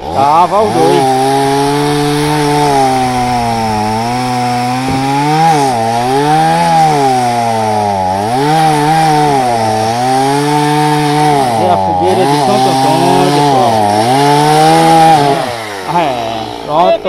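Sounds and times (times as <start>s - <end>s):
chainsaw cutting through log: 0.0s - 17.0s.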